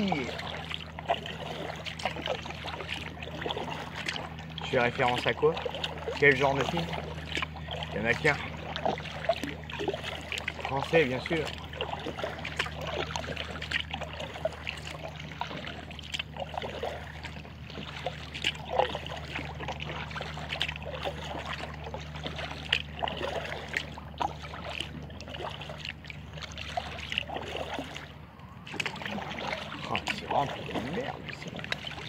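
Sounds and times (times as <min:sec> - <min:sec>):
paddle splashing in water: 0:00.0 - 0:32.0
steady low hum: 0:00.0 - 0:32.0
water dripping from paddle: 0:00.0 - 0:32.0.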